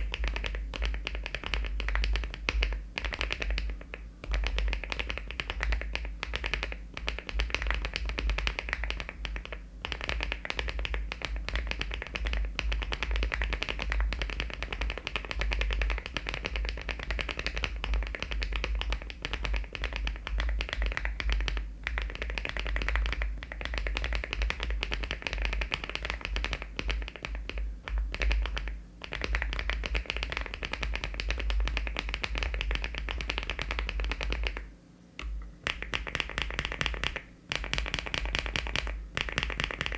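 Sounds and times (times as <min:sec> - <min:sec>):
mechanical keyboard typing: 0:00.0 - 0:34.6, 0:35.6 - 0:39.9.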